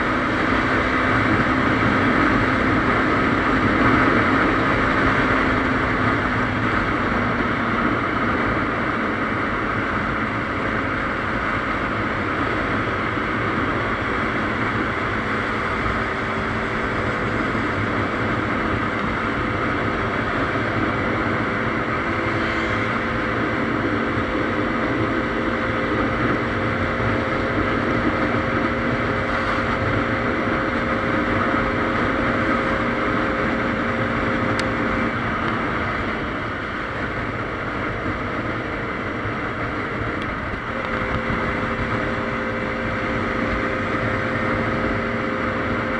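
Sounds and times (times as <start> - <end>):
motorcycle engine cruising: 0.0 - 45.9
wind and road noise: 0.0 - 45.9.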